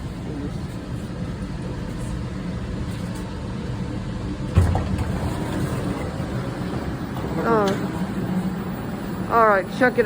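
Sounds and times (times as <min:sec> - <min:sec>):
light rail car rumble: 0:00.0 - 0:10.0.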